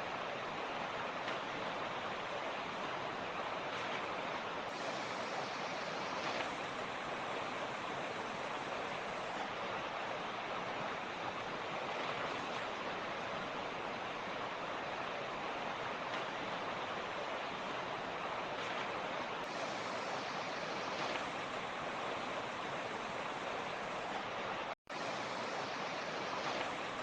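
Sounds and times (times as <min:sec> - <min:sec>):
creek water rushing over rocks: 0:00.0 - 0:27.0.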